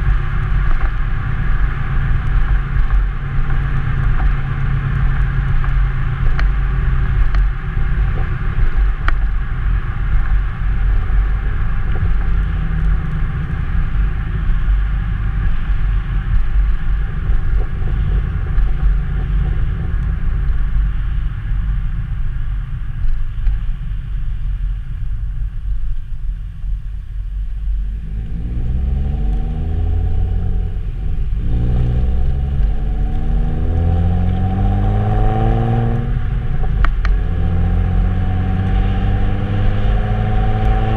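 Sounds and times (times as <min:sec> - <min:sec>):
car exhaust rumble: 0:00.0 - 0:40.9
road and wind noise: 0:00.0 - 0:40.9.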